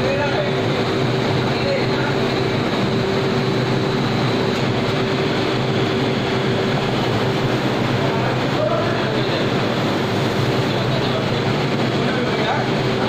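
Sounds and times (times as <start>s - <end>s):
machinery low hum: 0.0s - 13.0s
steady higher machine tone: 0.0s - 13.0s.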